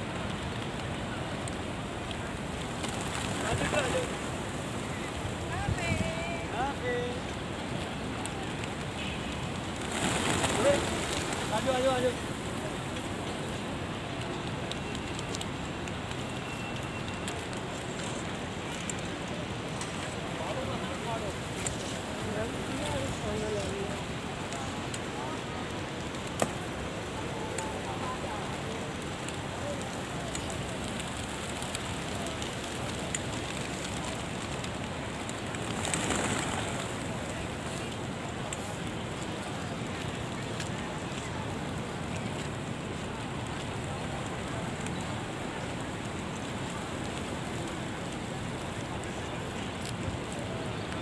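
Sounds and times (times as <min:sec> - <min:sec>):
busy plaza background rush: 0:00.0 - 0:51.0
pigeon wings flapping: 0:00.1 - 0:51.0.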